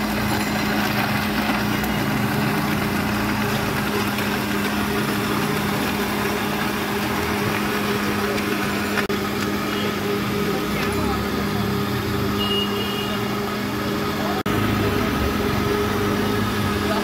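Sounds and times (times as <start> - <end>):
blender running: 0.0 - 17.0.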